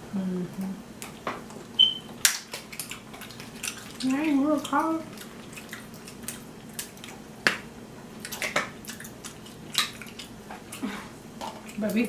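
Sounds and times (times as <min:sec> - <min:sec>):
wet squishing: 0:01.0 - 0:12.0.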